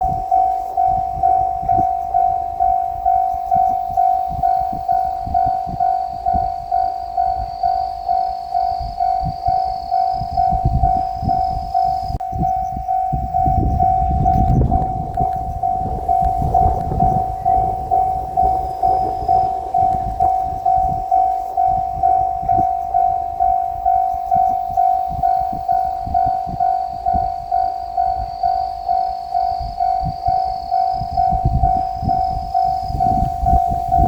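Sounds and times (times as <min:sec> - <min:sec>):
approaching train rumble: 0:00.0 - 0:34.0
level crossing warning bell: 0:00.0 - 0:34.0.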